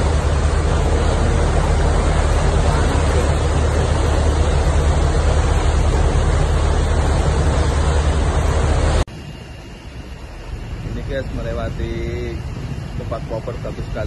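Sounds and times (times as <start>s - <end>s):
boat engine hum: 0.0s - 14.0s
rush of wake and wind: 0.0s - 14.0s.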